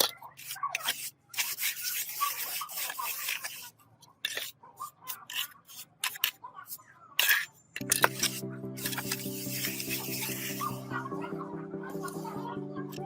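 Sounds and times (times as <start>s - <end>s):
scraping and rubbing strokes: 0.0s - 11.1s.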